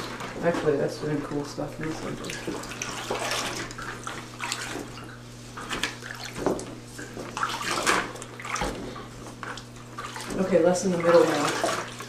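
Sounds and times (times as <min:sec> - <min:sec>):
liquid sloshing and splashing: 0:00.0 - 0:12.0
low electrical hum: 0:00.0 - 0:12.0.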